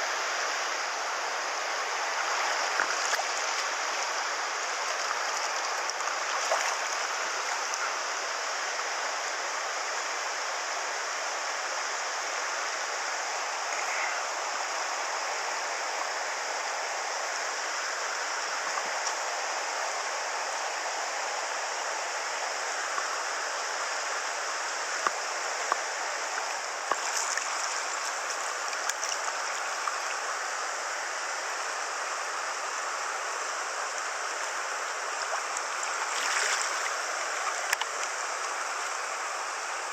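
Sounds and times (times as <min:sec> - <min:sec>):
river current rushing: 0:00.0 - 0:09.7, 0:12.0 - 0:39.9.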